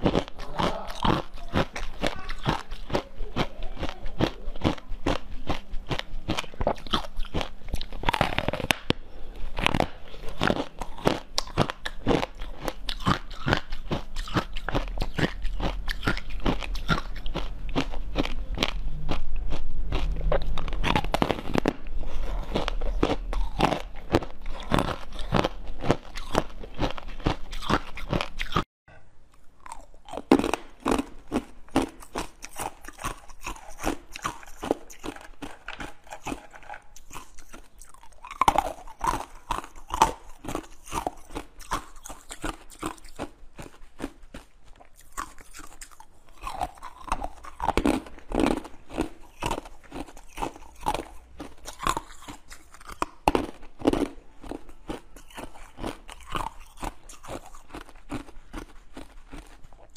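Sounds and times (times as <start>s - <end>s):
crunching frozen food: 0.0s - 28.6s, 29.6s - 59.9s.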